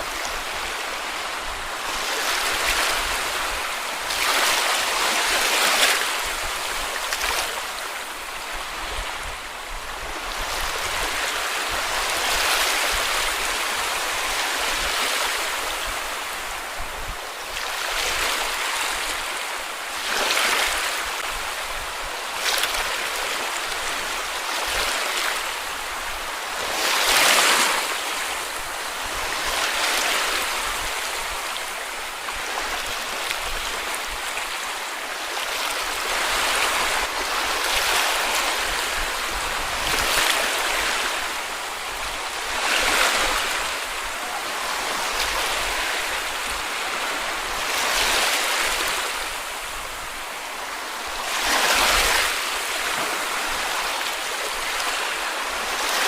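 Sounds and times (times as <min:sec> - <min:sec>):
waves washing onto beach: 0:00.0 - 0:56.0.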